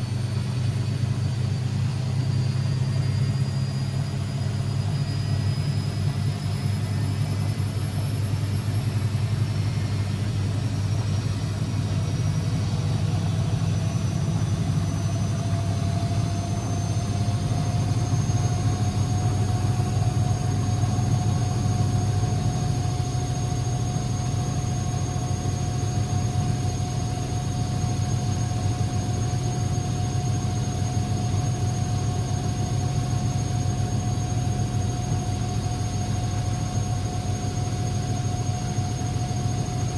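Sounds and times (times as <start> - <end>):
motor whine: 0.0 - 39.9
washing machine running: 0.0 - 39.9.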